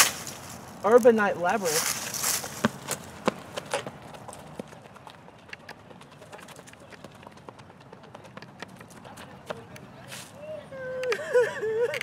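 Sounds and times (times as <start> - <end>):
footsteps on stone paving: 0.0 - 10.4.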